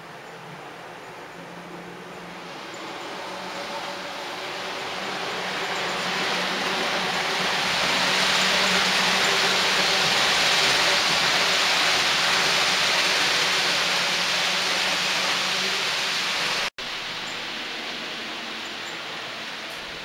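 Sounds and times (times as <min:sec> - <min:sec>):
model train wheels hissing on track: 0:00.0 - 0:20.0.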